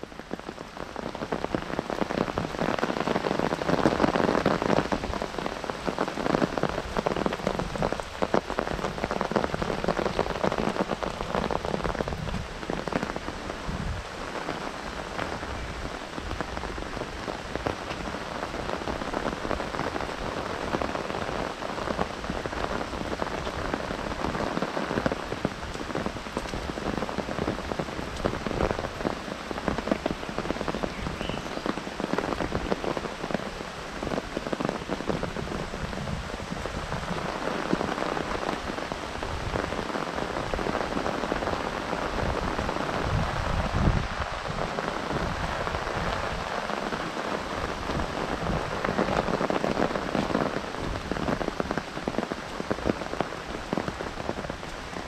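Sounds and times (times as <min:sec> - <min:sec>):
heavy rain on umbrella: 0:00.0 - 0:55.0.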